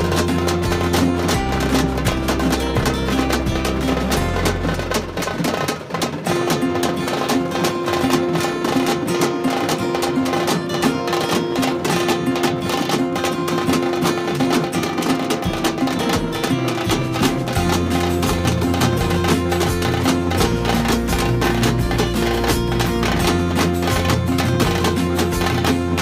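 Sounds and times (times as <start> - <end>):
music with fast busy beat: 0.0 - 26.0.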